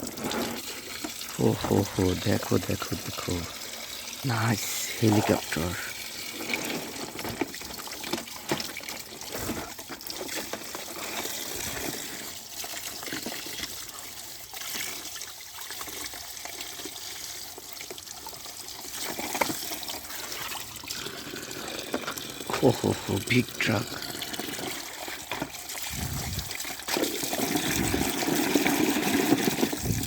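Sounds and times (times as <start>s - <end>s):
water running and splashing: 0.0s - 30.0s.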